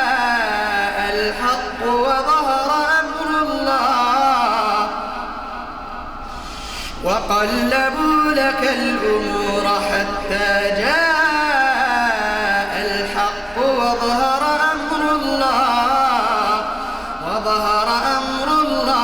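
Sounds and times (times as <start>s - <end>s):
man chanting melodic recitation: 0.0s - 5.6s, 7.0s - 19.0s.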